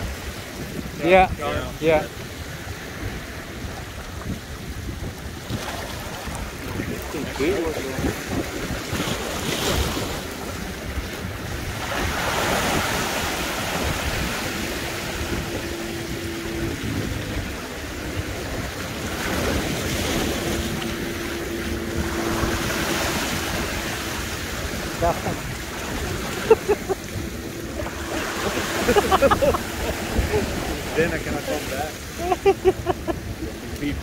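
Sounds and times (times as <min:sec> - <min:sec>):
waves washing against rocks: 0:00.0 - 0:32.5
wind buffeting microphone: 0:00.0 - 0:34.0.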